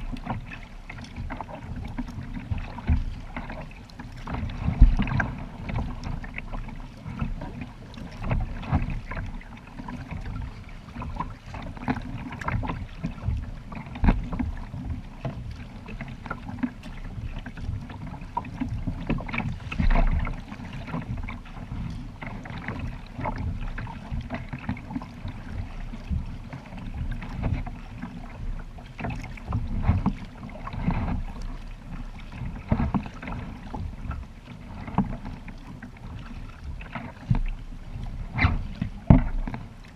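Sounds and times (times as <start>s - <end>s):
paddle splashes: 0.0s - 39.9s
water slapping against hull: 0.0s - 39.9s.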